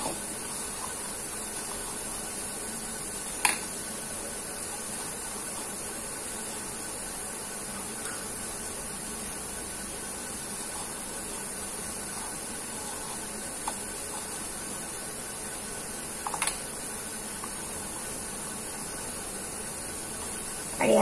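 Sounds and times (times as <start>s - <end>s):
kneading dough by hand: 0.0s - 21.0s
steady background hiss: 0.0s - 21.0s.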